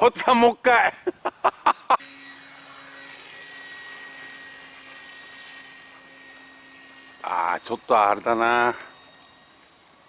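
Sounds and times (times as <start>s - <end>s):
model plane motor whining: 1.9s - 10.0s.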